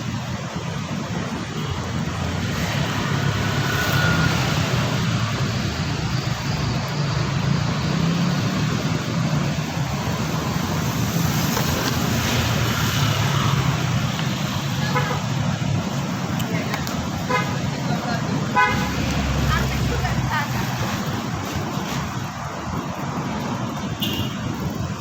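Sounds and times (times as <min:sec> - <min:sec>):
road vehicle engine and traffic: 0:00.0 - 0:25.0.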